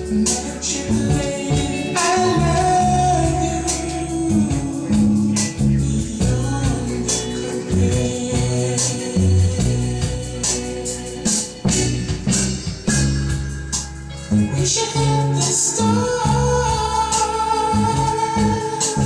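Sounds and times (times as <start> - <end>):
bass line: 0.0 - 19.0
drums with cymbal strokes: 0.0 - 19.0
held voices or chords: 0.0 - 19.0
soul band music: 0.0 - 19.0.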